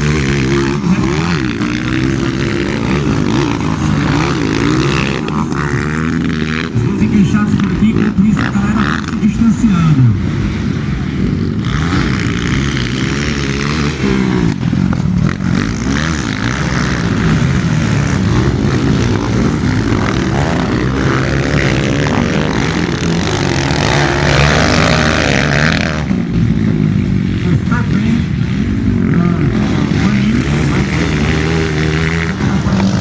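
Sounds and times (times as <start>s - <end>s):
motocross engines revving: 0.0s - 33.0s.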